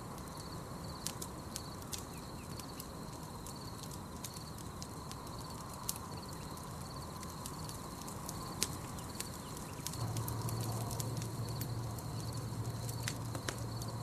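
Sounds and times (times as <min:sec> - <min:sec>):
campfire crackling and popping: 0:00.0 - 0:14.0
insect trill: 0:00.0 - 0:14.0.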